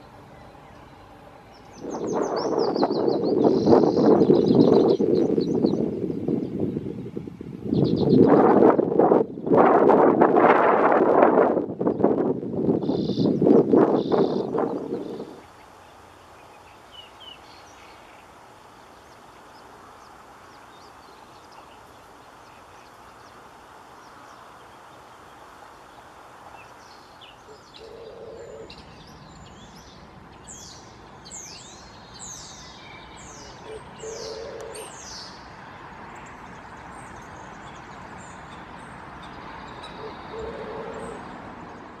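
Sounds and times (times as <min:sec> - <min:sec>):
steady outdoor hiss: 0:00.0 - 0:42.0.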